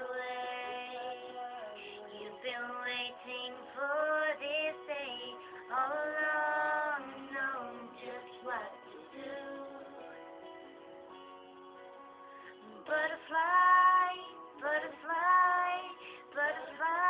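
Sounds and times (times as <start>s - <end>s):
woman singing a ballad: 0.0s - 10.3s, 12.5s - 17.0s
quiet backing track: 0.0s - 17.0s.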